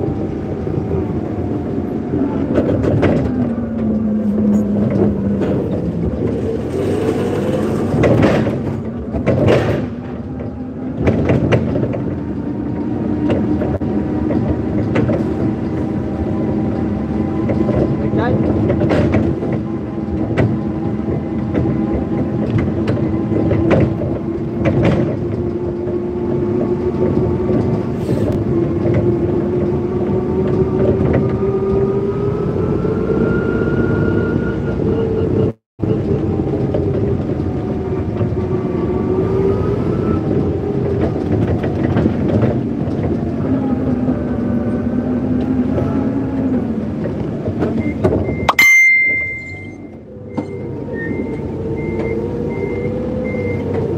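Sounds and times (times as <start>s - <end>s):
forklift humming and whining: 0.0s - 53.9s.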